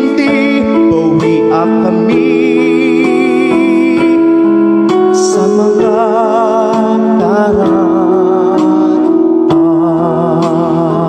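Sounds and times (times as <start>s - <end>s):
sustained keyboard chords: 0.0s - 11.0s.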